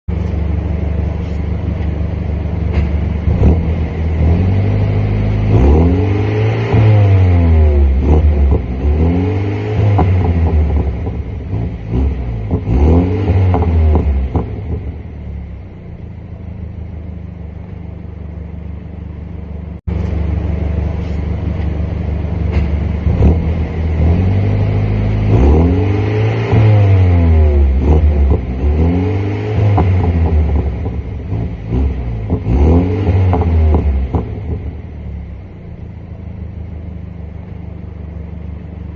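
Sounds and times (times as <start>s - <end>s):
car engine idling: 0.0s - 26.0s, 26.7s - 38.9s
car engine revving: 0.1s - 38.9s.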